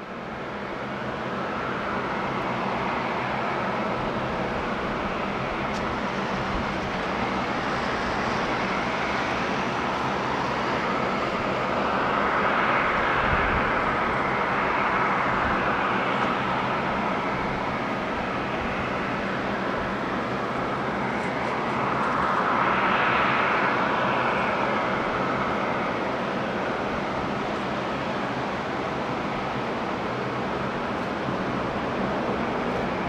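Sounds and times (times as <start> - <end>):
distant jet engines humming: 0.0 - 33.0.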